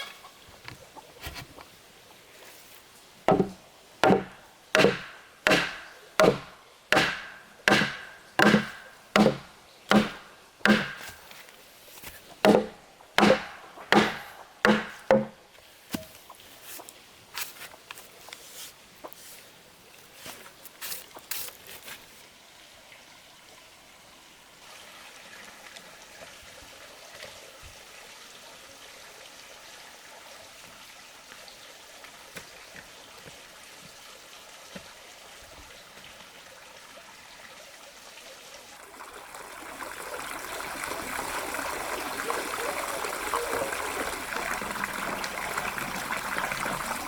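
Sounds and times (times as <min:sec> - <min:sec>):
water running and trickling: 0:00.2 - 0:47.0.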